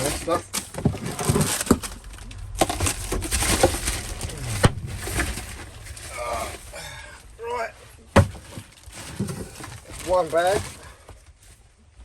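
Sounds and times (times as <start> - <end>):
packets and bag rustling: 0.0 - 12.0.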